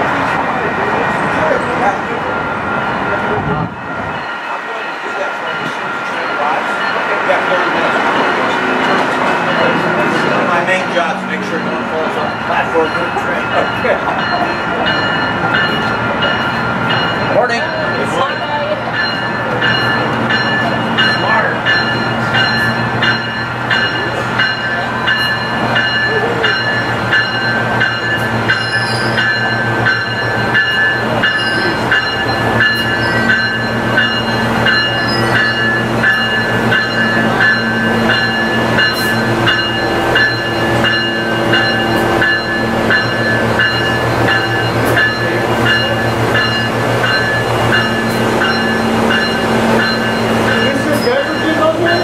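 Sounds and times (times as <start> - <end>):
diesel train engine running: 0.0 - 52.0.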